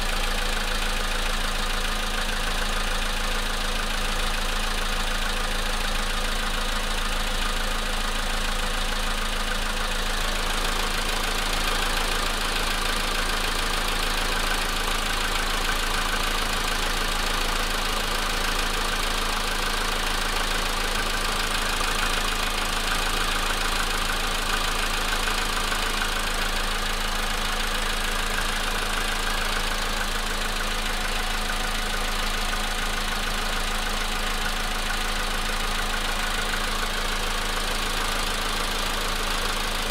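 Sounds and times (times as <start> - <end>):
car engine running: 0.0 - 39.9
engine knocking: 0.0 - 39.9.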